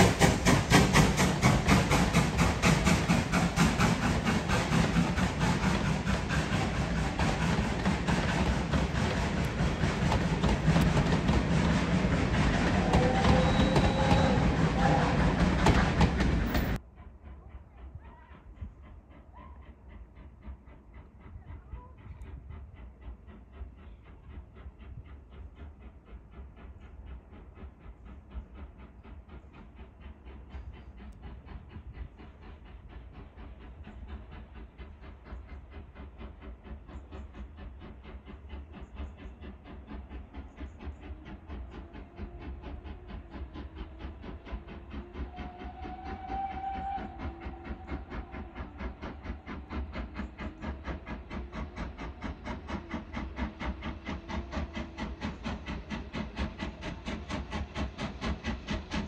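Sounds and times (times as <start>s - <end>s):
steam train chugging: 0.0s - 59.0s.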